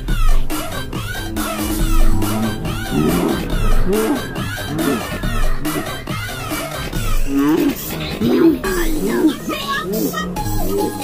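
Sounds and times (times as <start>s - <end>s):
dance music with deep bass: 0.0s - 11.0s.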